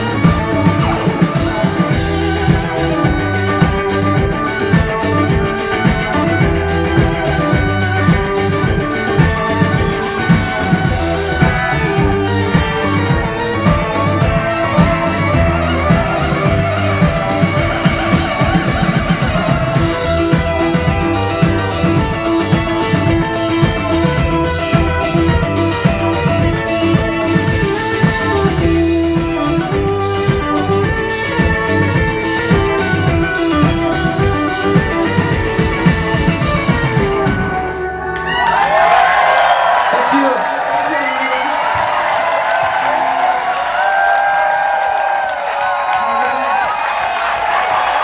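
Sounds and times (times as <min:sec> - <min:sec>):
electric guitar lines: 0:00.0 - 0:38.9
bass guitar: 0:00.0 - 0:39.9
drum kit beat: 0:00.0 - 0:39.9.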